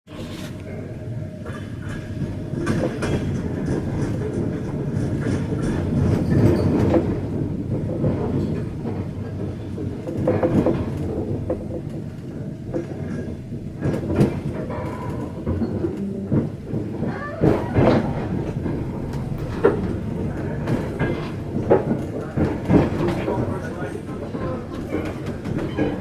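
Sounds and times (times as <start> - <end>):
train rumbling on rails: 0.1 - 26.0.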